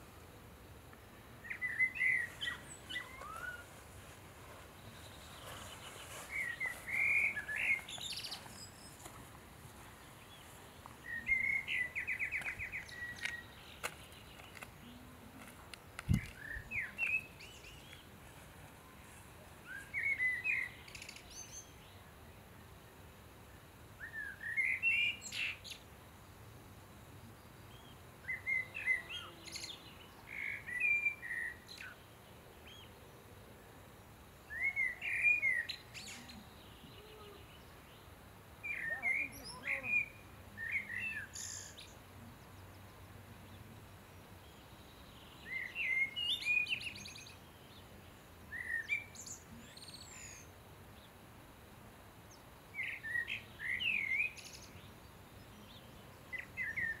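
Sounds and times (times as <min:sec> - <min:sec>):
songbird chirping: 0:00.0 - 0:57.0.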